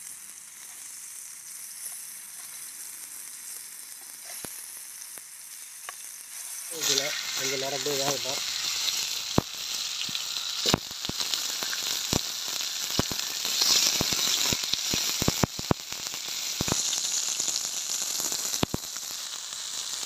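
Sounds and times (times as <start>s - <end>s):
fish sizzling in hot oil: 0.0s - 20.0s
oil pops and crackles: 0.0s - 20.0s.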